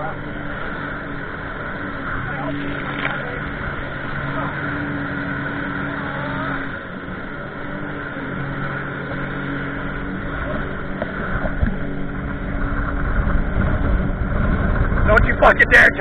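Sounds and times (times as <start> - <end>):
jet ski engine: 0.0 - 16.0
water rushing: 0.0 - 16.0
wind: 0.0 - 16.0.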